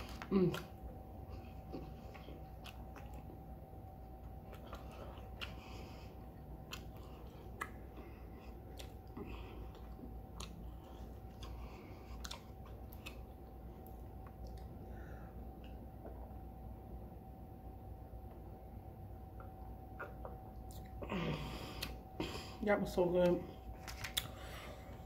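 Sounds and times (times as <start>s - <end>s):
person chewing food: 0.0s - 16.4s, 19.2s - 22.5s, 23.8s - 25.0s
faint steady hum: 0.0s - 25.0s.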